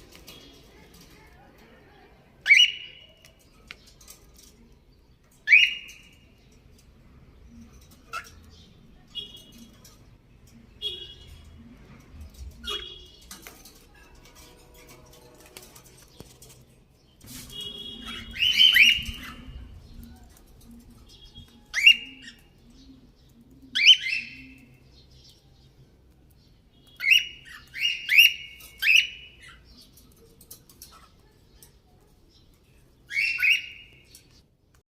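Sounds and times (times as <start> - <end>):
small birds chirping: 0.0 - 34.8.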